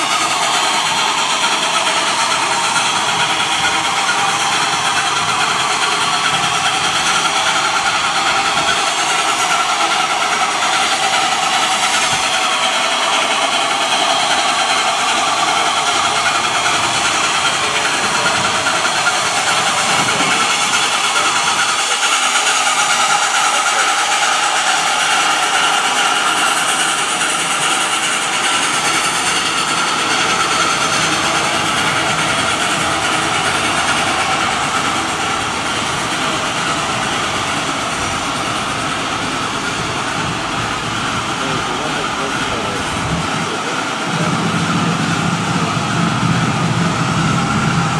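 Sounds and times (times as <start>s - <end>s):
steam locomotive hissing: 0.0s - 47.9s.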